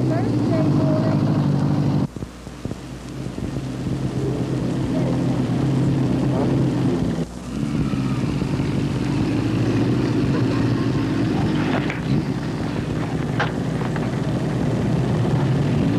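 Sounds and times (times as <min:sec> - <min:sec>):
motor droning: 0:00.0 - 0:15.9.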